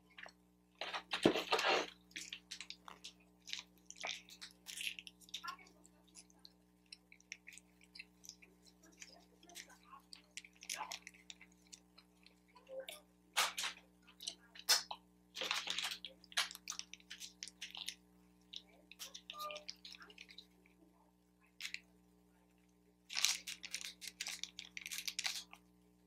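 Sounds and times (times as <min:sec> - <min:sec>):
wet chewing and mouth clicks: 0:00.0 - 0:20.8, 0:22.5 - 0:25.7
faint steady hum: 0:00.0 - 0:26.0.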